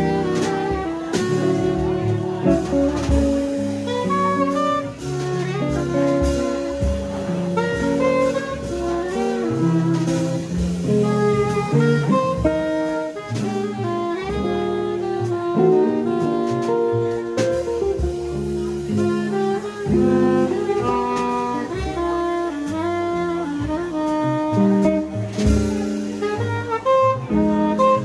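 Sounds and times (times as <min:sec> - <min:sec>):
drum kit with cymbals: 0:00.0 - 0:28.0
soprano saxophone melody: 0:00.0 - 0:28.0
upright bass: 0:00.0 - 0:28.0.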